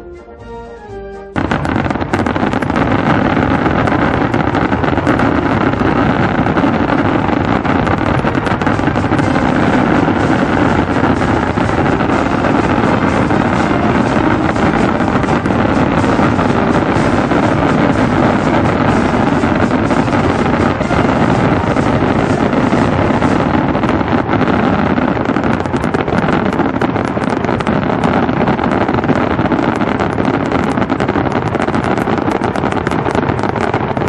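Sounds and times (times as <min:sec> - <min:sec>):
fireworks bursts and crackles: 0:01.4 - 0:34.0.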